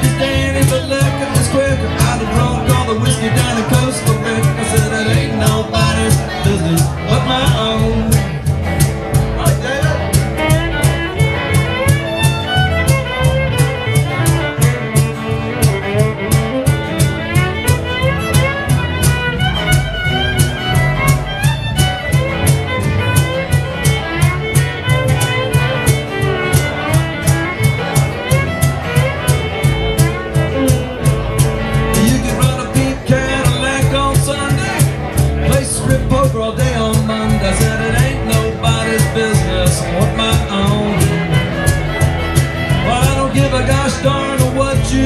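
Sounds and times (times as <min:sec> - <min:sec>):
acoustic guitar: 0:00.0 - 0:45.0
fiddle: 0:00.0 - 0:45.0
upright bass: 0:00.0 - 0:45.0.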